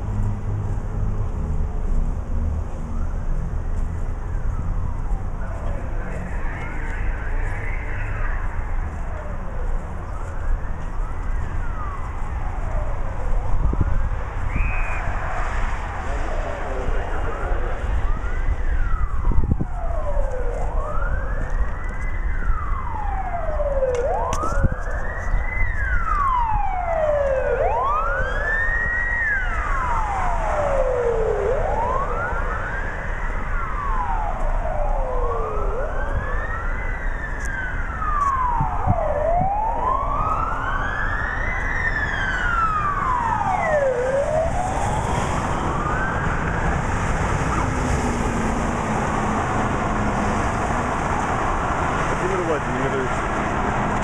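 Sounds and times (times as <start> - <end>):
low rumble of traffic: 0.0 - 54.0
wailing sirens: 0.0 - 54.0.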